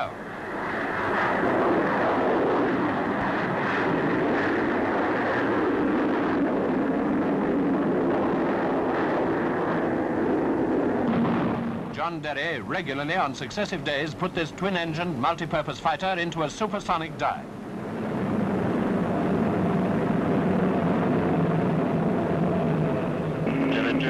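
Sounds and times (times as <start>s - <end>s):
jet taking off: 0.0s - 24.0s.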